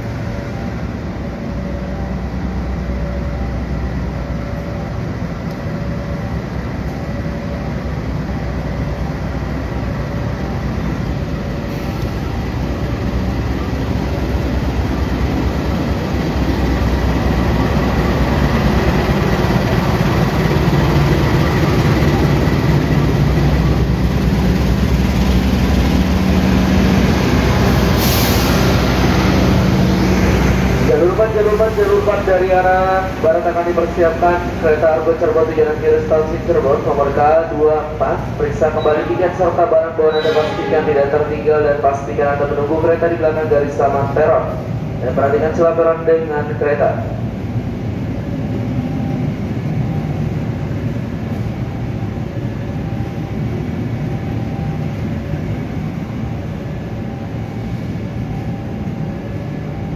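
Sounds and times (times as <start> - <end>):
locomotive engine droning: 0.0 - 59.9.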